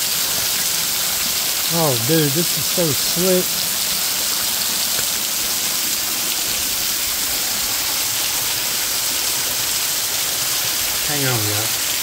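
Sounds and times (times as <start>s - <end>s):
waterfall splashing onto rocks: 0.0s - 12.0s.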